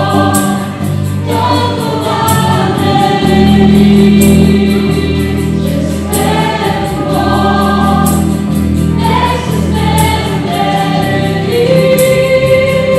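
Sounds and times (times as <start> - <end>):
acoustic guitar: 0.0 - 12.9
bass guitar: 0.0 - 12.9
group of people singing: 0.0 - 12.9
keyboard: 0.0 - 12.9.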